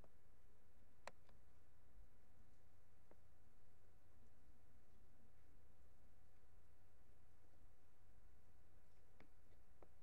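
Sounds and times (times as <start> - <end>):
faint low hum with hiss: 0.0 - 10.0.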